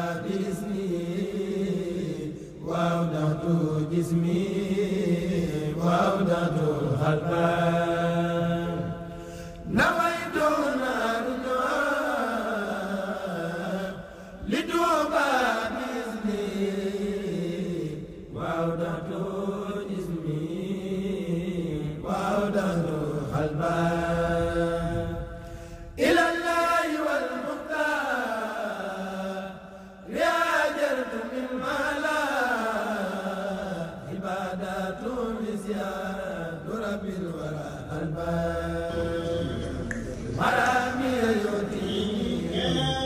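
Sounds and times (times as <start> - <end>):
person chanting devotional poem: 0.0 - 43.0.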